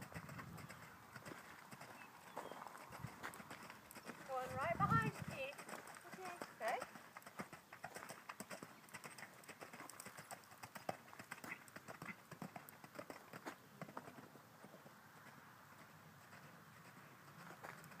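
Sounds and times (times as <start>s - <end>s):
faint hoofbeats on sand: 0.0s - 18.0s.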